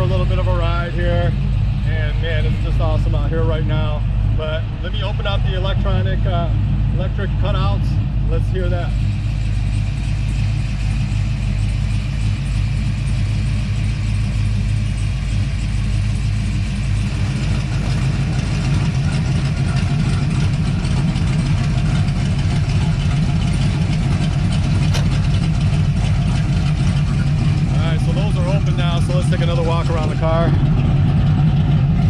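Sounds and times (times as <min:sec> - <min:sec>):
car engine idling: 0:00.0 - 0:32.0
loud rough exhaust: 0:00.0 - 0:32.0.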